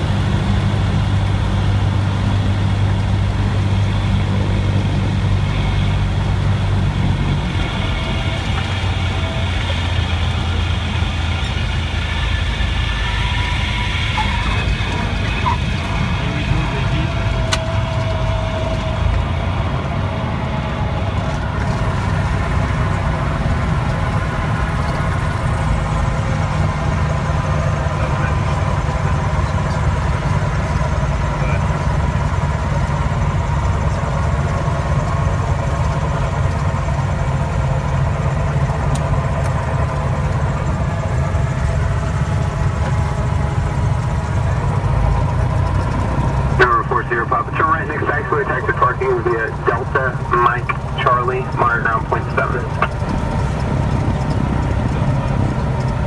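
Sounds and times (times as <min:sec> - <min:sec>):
propeller plane engine idling: 0:00.0 - 0:56.0.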